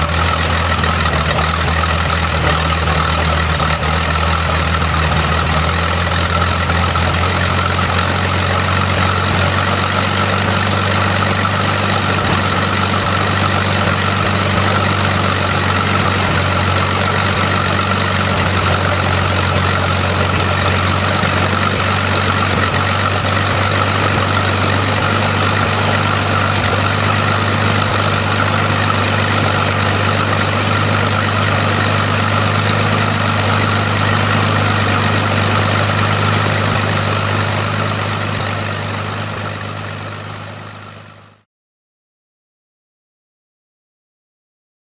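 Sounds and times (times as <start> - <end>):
piston aircraft engine running: 0.0 - 41.4.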